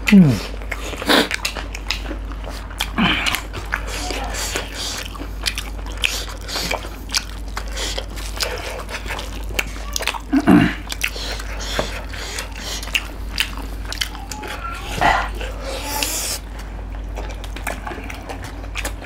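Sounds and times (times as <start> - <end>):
chewing and wet mouth sounds: 0.0 - 19.0.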